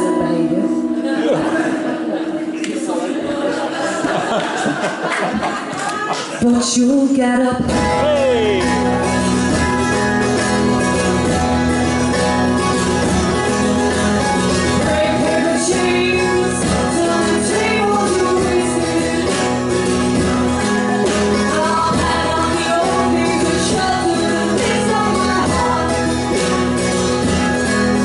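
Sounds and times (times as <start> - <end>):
strummed acoustic guitar: 0.0 - 5.6, 7.6 - 28.0.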